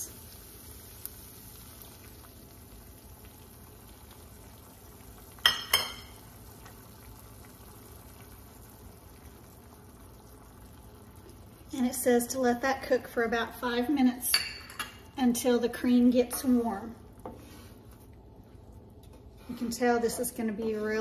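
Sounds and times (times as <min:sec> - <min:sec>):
sauce simmering in a pan: 0:00.0 - 0:21.0.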